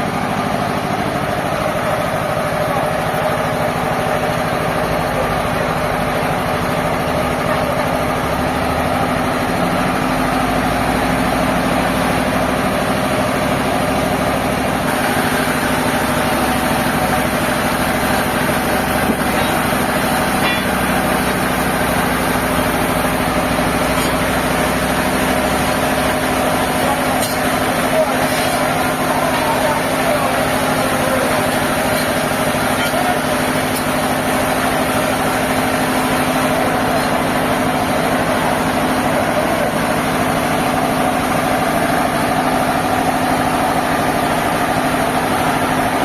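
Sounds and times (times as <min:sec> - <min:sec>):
sawmill machinery drone: 0:00.0 - 0:46.0.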